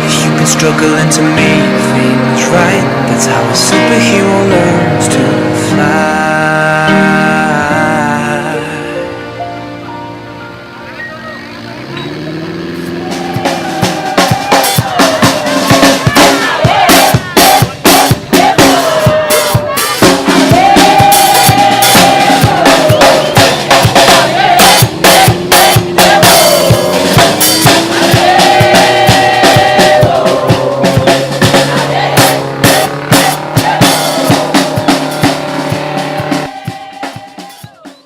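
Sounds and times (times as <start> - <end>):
pop-rock music with drums: 0.0 - 8.9, 11.8 - 38.0.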